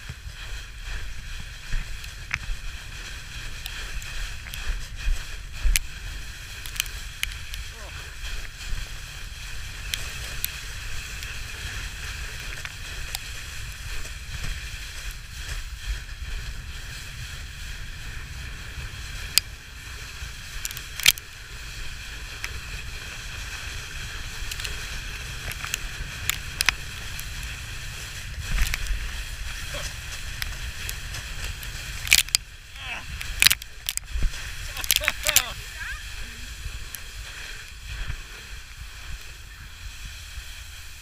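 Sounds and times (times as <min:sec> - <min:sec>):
toboggan runners hissing on snow: 0:00.0 - 0:41.0.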